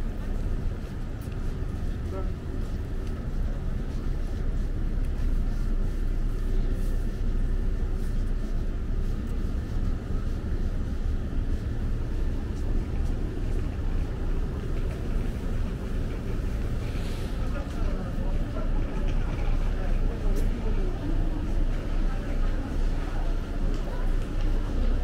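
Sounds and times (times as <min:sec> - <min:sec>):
city street traffic rumble: 0:00.0 - 0:25.0.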